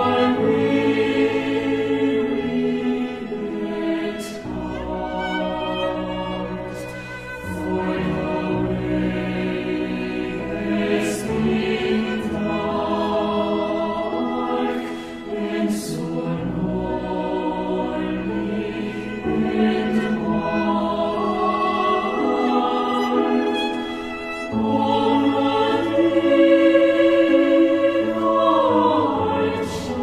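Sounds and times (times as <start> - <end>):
choir singing slow chords: 0.0 - 30.0.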